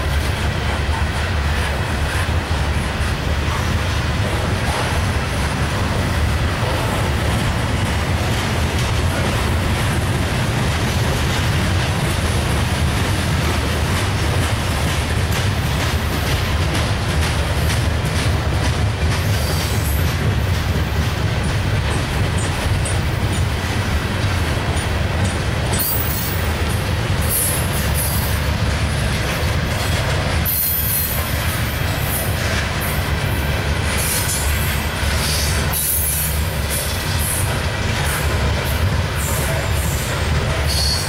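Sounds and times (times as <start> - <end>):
freight train wheels rumbling on rail: 0.0 - 41.0.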